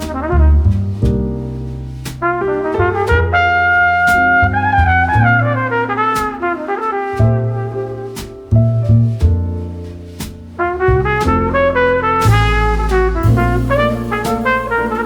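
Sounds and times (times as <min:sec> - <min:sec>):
instrumental music with brass melody: 0:00.0 - 0:15.0.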